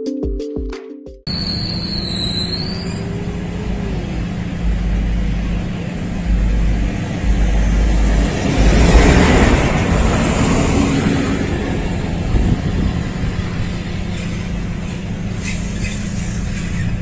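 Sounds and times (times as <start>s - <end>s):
road traffic noise: 1.3s - 17.0s
vehicle approaching: 1.3s - 17.0s.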